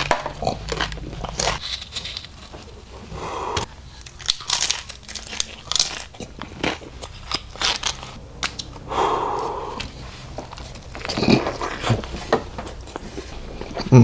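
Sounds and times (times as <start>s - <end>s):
crunchy food chewing: 0.0s - 14.0s.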